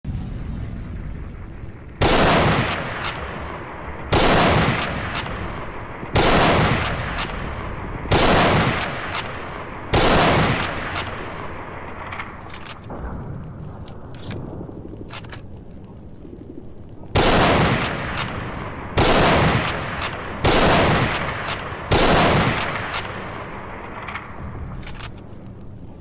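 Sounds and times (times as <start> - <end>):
rifle shots echoing: 1.4 - 15.5, 17.1 - 25.5.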